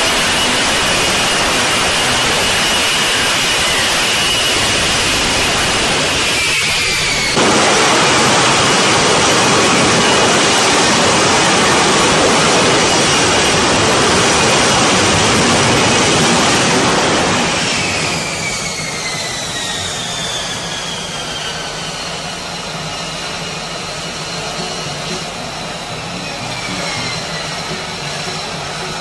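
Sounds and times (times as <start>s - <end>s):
high engine whine falling in pitch: 0.0s - 29.0s
jet engine roaring: 0.0s - 29.0s.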